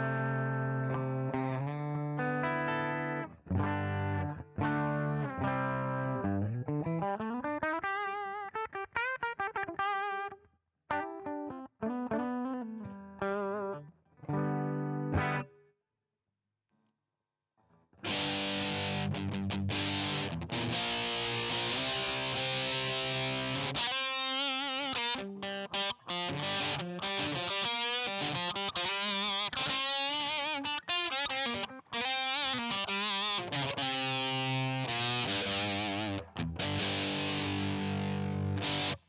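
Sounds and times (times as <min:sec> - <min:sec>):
distorted electric guitar: 0:00.0 - 0:10.3, 0:10.9 - 0:15.5, 0:18.0 - 0:39.0.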